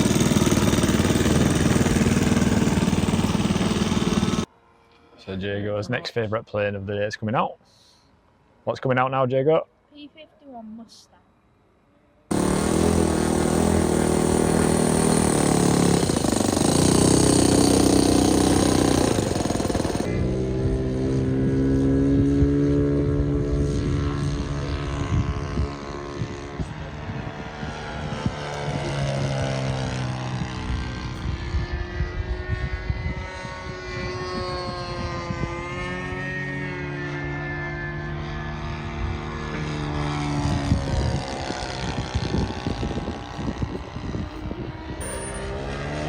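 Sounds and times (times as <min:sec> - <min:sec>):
model aircraft engine: 0:00.0 - 0:04.5, 0:12.3 - 0:46.0.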